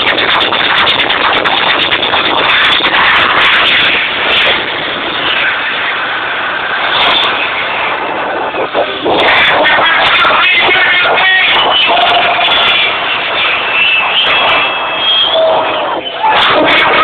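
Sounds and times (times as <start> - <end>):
crowd noise: 0.0 - 17.0
dance music: 0.0 - 17.0.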